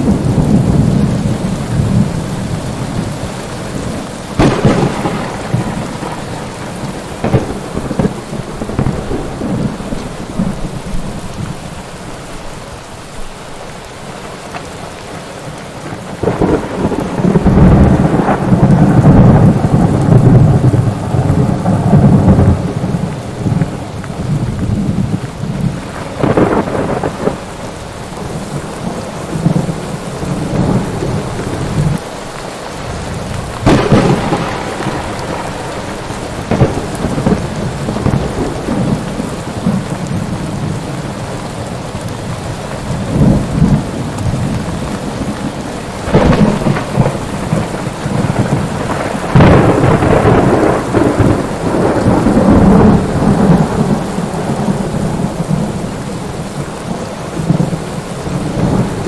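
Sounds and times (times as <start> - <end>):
thunder claps and rumbles: 0.0 - 12.4, 14.4 - 32.1, 32.7 - 59.0
steady rain: 0.0 - 59.0.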